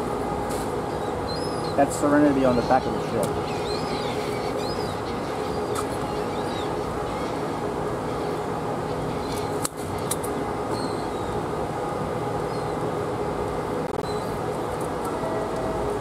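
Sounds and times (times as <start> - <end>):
ship machinery drone: 0.0 - 16.0.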